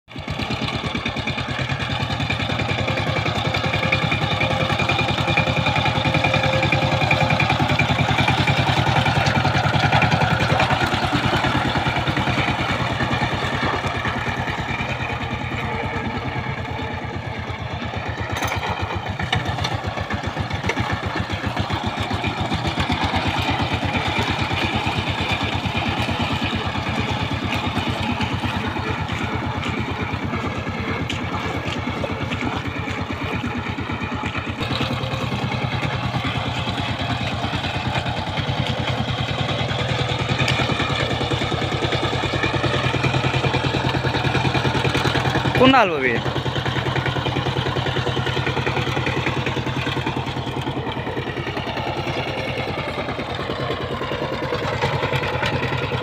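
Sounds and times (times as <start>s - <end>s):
diesel tiller engine running: 0.1s - 56.0s.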